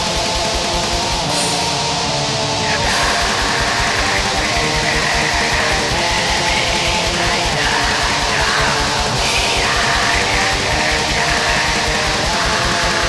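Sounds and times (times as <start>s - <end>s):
distorted electric guitars: 0.0s - 13.0s
fast drumming: 0.0s - 13.0s
cymbals: 1.1s - 13.0s.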